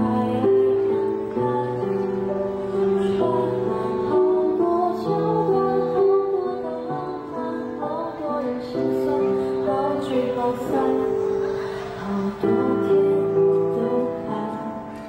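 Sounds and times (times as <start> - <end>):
boy singing a pop ballad: 0.0 - 15.0
soft instrumental accompaniment: 0.0 - 15.0.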